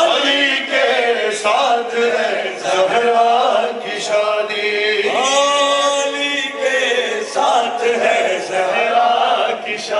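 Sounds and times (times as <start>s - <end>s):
men chanting into a microphone: 0.0s - 9.9s.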